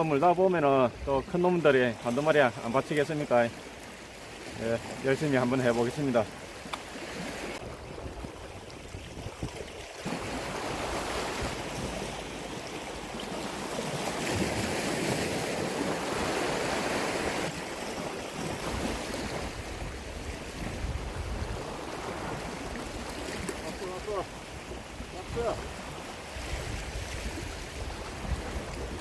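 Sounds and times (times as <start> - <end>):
sea waves washing against rocks: 1.4 - 29.0.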